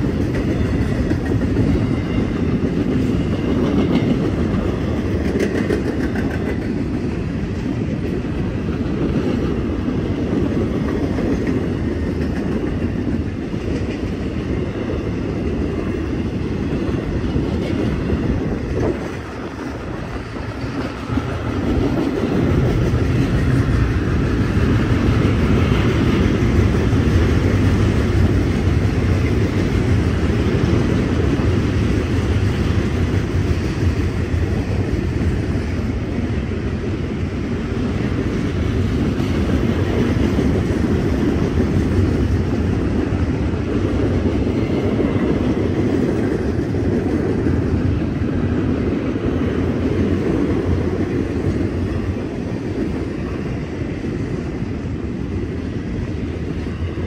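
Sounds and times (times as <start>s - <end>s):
freight train wheels on track: 0.0s - 57.0s.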